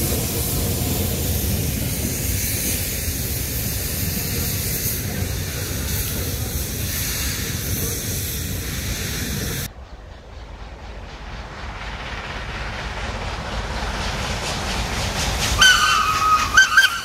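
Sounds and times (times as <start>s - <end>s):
steady hiss: 0.0s - 17.0s
steam train rumbling: 0.0s - 17.0s.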